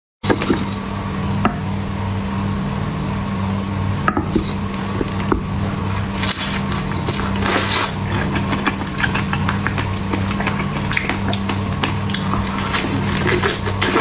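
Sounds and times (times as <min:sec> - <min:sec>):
refrigerator humming: 0:00.2 - 0:14.0.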